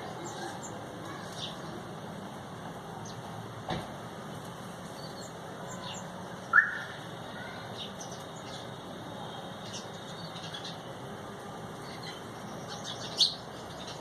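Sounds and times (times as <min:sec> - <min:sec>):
small birds chirping: 0:00.0 - 0:02.0, 0:02.8 - 0:03.5, 0:04.4 - 0:14.0.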